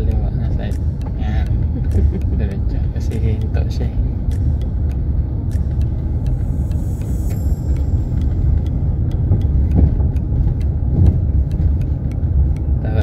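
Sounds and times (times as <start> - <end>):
car engine and tyres rumbling: 0.0 - 13.0
faint light ticking: 0.0 - 13.0.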